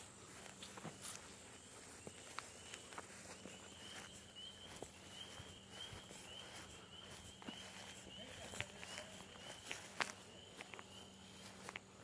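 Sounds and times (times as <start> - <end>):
footsteps through grass: 0.0 - 12.0
faint high chirps: 1.2 - 12.0.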